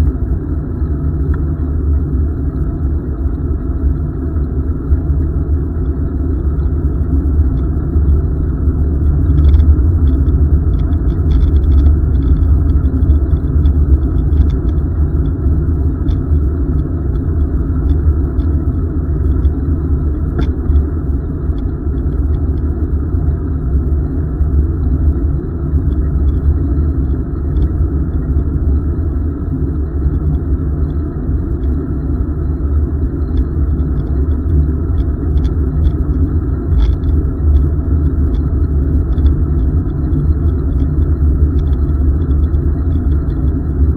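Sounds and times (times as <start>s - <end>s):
wind and riding noise on microphone: 0.0s - 43.9s
faint light ticks: 1.2s - 1.7s, 5.7s - 23.4s, 24.0s - 43.9s.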